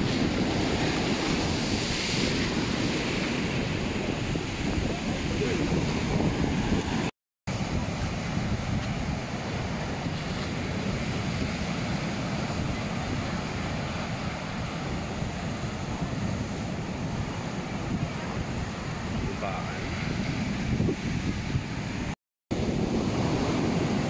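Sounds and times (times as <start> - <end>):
surf breaking on a beach: 0.0 - 24.0
wind buffeting microphone: 0.0 - 24.0.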